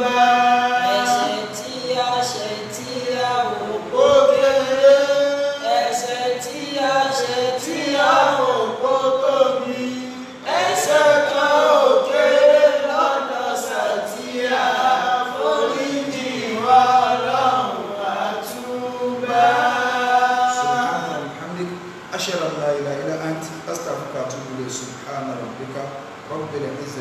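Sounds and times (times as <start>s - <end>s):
man chanting melodically: 0.0s - 25.6s.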